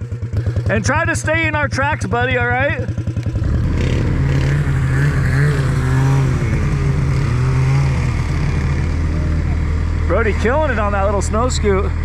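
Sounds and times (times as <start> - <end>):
snowmobile engine drone: 0.0 - 12.0
engine note rising and falling: 0.9 - 12.0.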